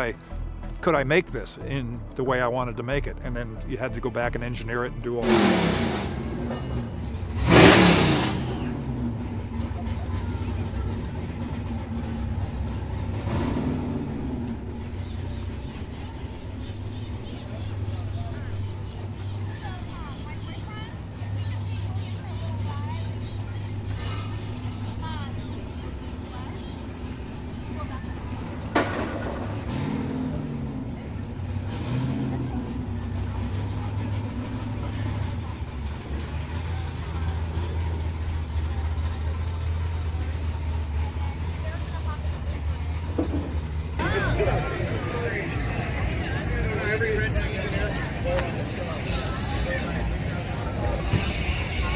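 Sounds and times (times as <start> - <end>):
engine low rumble: 0.0 - 51.9.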